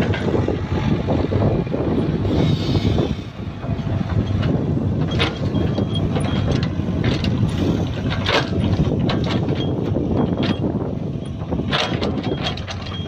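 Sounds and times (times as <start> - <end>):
excavator diesel engine running: 0.0 - 13.0
metal clanks and scrapes: 2.2 - 13.0.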